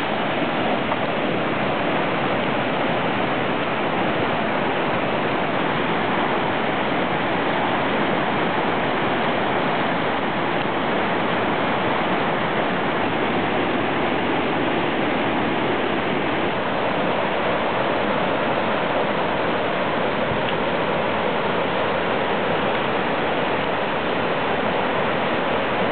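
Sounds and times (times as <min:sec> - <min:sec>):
water rushing over rocks: 0:00.0 - 0:25.9.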